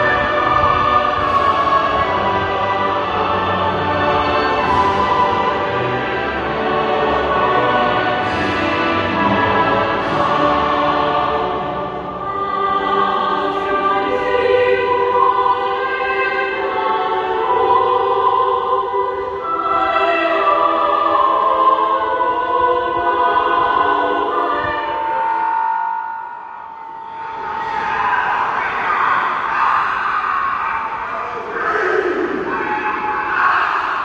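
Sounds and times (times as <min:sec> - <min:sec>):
crowd singing anthem: 0:00.0 - 0:34.0.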